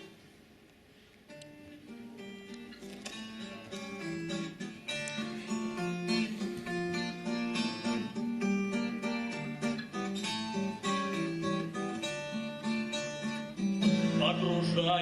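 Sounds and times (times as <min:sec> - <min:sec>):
acoustic guitar strumming and plucking: 0:01.3 - 0:15.0.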